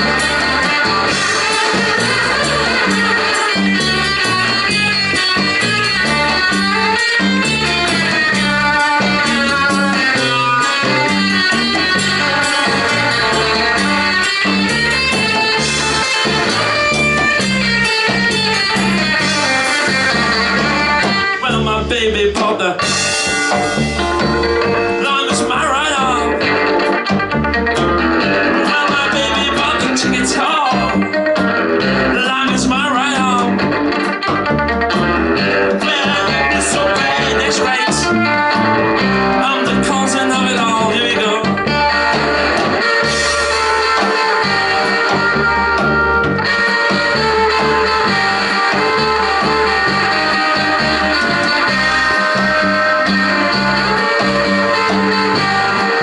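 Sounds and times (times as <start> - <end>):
drums: 0.0 - 56.0
electric guitar lines: 0.0 - 56.0
repeating bass pattern: 0.0 - 56.0.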